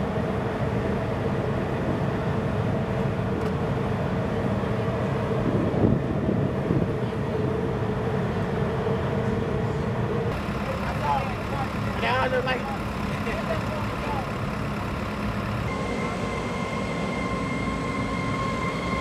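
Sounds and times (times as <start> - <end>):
constant machinery hum: 0.0 - 19.0.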